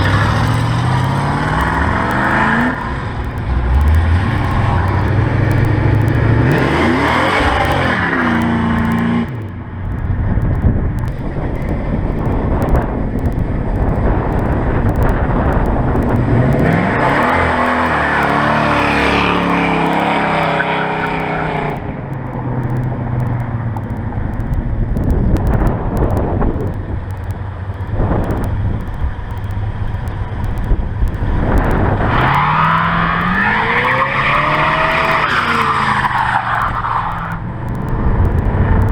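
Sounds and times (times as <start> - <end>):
car engines revving and accelerating: 0.0 - 38.9.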